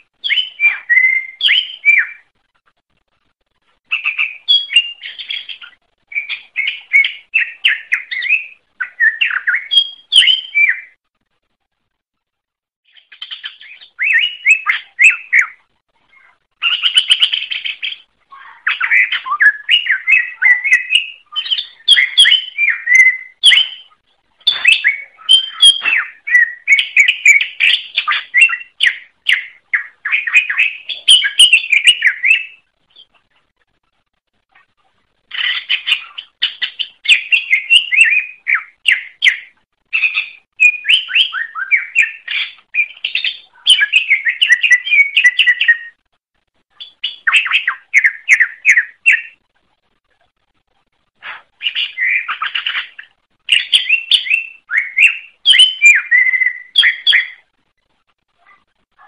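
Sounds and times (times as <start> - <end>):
bird singing whistled phrases: 0.0 - 2.3, 3.9 - 11.0, 13.0 - 33.1, 35.3 - 46.0, 46.8 - 49.4, 51.6 - 57.4.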